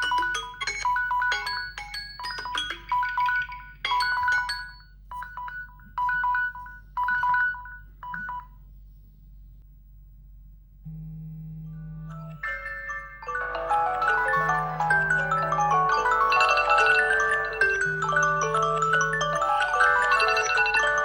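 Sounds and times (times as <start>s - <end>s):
marimba-like phone alert melody: 0.0s - 8.4s, 12.0s - 21.0s.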